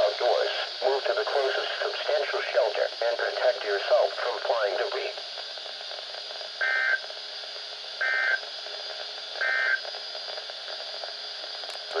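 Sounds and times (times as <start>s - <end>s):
radio broadcast hiss: 0.0s - 12.0s.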